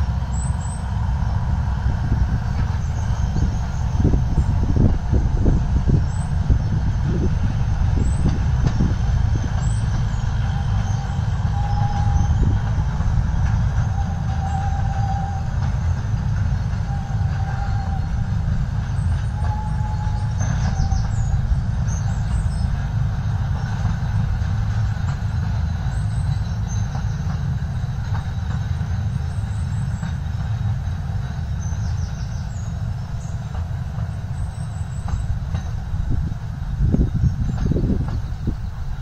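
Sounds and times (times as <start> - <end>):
train rumbling: 0.0 - 39.0.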